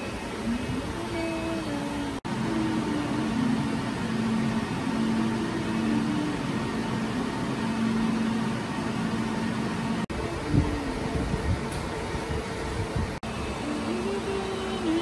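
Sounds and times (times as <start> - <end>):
cooling fans rushing: 0.0 - 15.0
low hum: 1.5 - 15.0.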